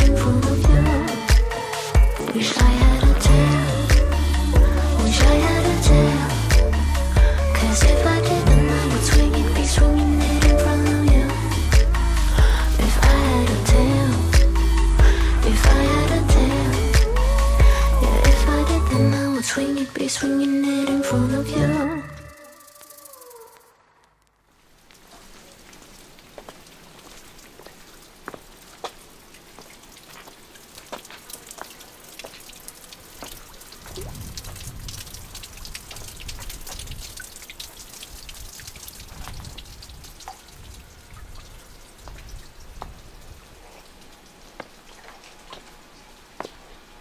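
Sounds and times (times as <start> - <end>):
water dripping into pool: 0.0 - 21.2, 24.8 - 47.0
running water hiss: 0.0 - 23.8, 24.5 - 47.0.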